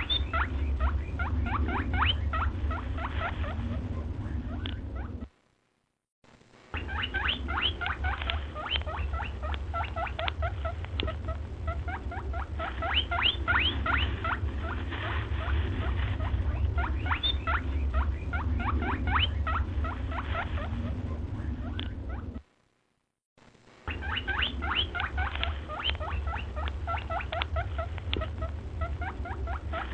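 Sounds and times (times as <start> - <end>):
small animal squeaking: 0.0 - 5.3, 6.8 - 22.4, 23.9 - 29.9
steady low hum: 0.0 - 29.9.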